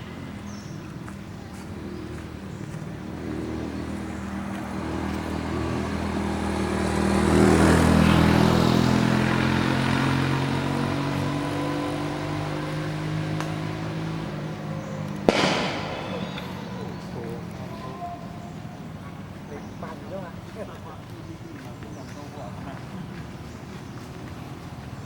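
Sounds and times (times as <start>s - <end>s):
motor vehicle passing: 0.0s - 20.7s.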